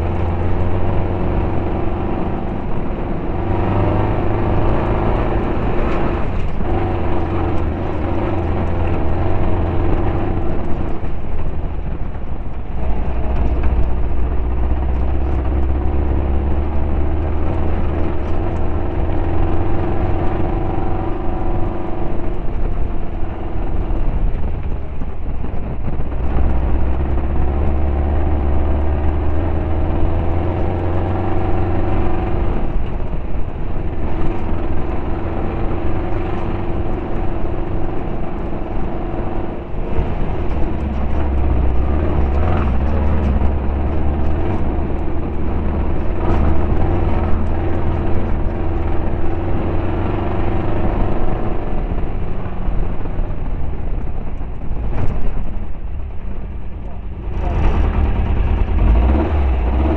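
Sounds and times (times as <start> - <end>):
race car engine under load: 0.0 - 59.9.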